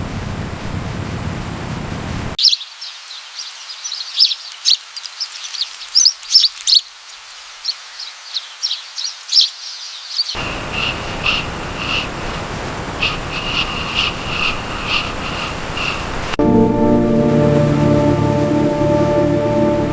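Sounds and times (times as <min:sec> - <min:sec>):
steady hiss: 0:00.0 - 0:19.9
small birds chirping: 0:00.1 - 0:16.4.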